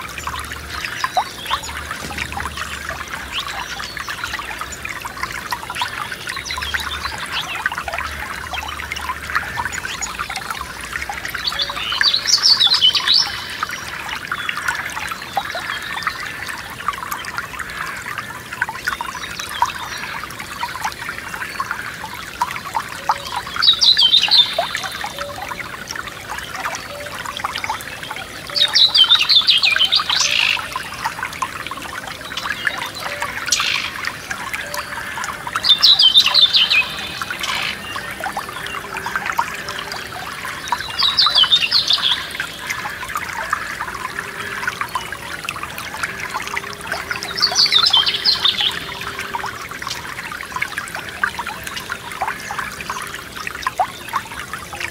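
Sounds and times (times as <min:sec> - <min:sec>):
stream trickling: 0:00.0 - 0:54.9.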